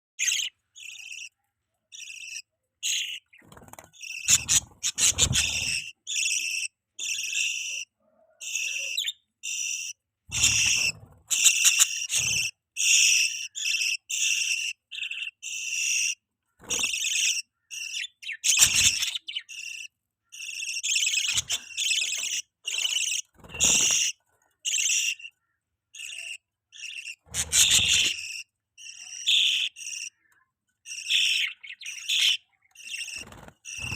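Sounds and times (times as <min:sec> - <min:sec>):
budgerigars chirping: 0:00.2 - 0:33.9.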